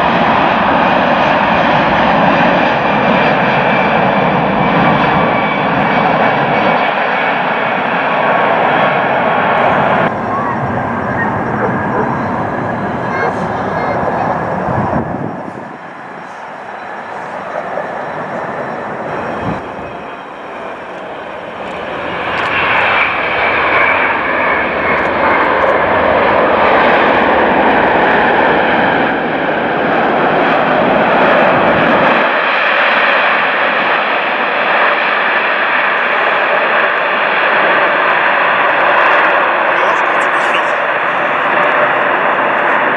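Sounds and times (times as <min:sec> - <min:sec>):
jet engine roar with whine: 0:00.0 - 0:42.9.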